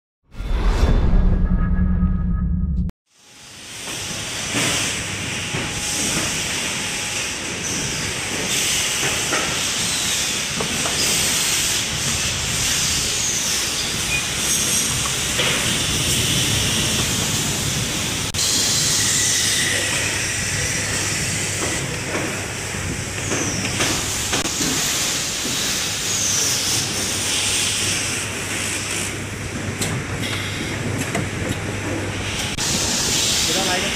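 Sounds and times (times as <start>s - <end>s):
machinery hiss and hum: 3.2s - 33.9s.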